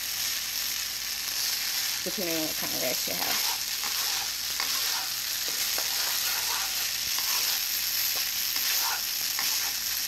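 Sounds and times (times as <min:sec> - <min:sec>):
rice sizzling in a wok: 0:00.0 - 0:10.0
spatula scraping wok: 0:01.3 - 0:10.0.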